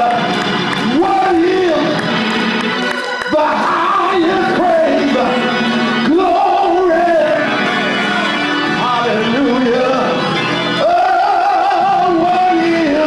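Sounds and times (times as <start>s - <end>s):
man singing: 0.0s - 2.1s, 3.1s - 13.0s
sustained instrumental chords: 0.0s - 13.0s.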